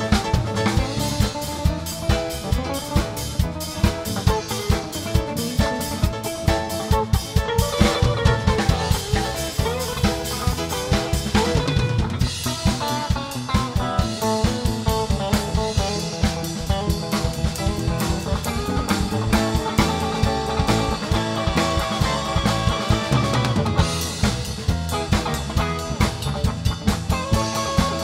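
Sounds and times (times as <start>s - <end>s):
band playing instrumental: 0.0s - 28.0s
drum kit fast beat: 0.0s - 28.0s.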